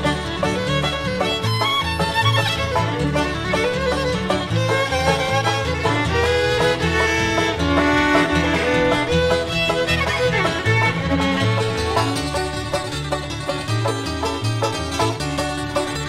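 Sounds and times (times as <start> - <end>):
banjo: 0.0 - 16.0
fiddle melody: 0.0 - 16.0
guitar: 0.0 - 16.0
plucked bass: 0.0 - 16.0.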